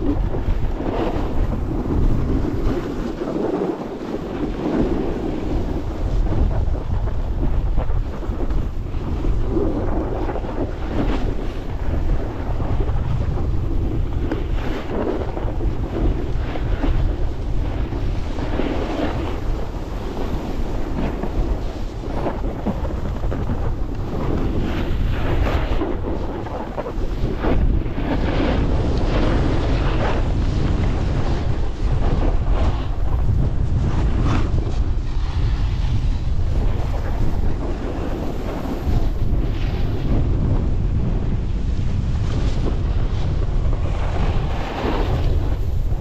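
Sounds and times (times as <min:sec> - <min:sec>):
board edges scraping snow: 0:00.0 - 0:46.0
wind buffeting microphone: 0:00.0 - 0:46.0.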